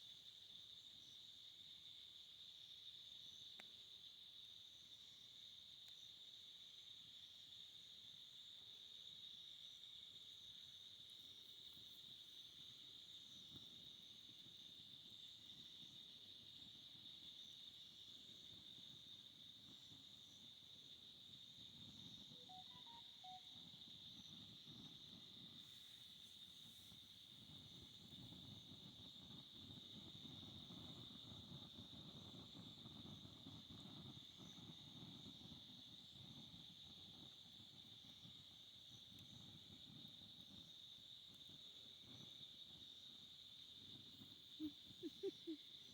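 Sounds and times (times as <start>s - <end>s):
crickets trilling: 0.0s - 45.9s.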